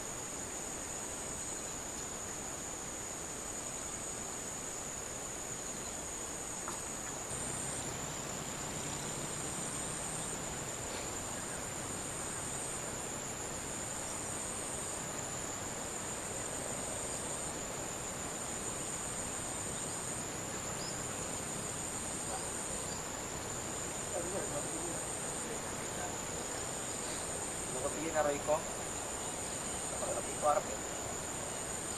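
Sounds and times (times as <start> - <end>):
higher intermittent insect trill: 0.0 - 31.9
steady high-pitched insect trill: 0.0 - 31.9.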